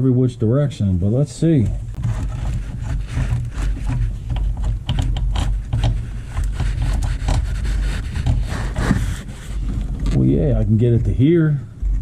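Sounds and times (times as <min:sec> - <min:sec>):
clicks and scrapes of handled parts: 0:01.7 - 0:12.0.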